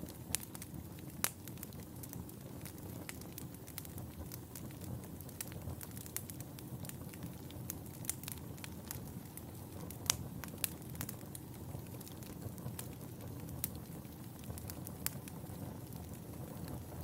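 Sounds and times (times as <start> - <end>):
fire crackling and popping: 0.0 - 17.0
fire rumbling in fireplace: 0.0 - 17.0.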